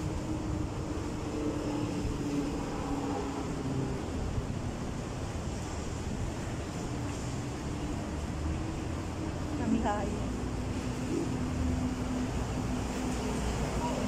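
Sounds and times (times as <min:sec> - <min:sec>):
faint engine hum: 0:00.0 - 0:14.0
low traffic rumble: 0:00.0 - 0:14.0.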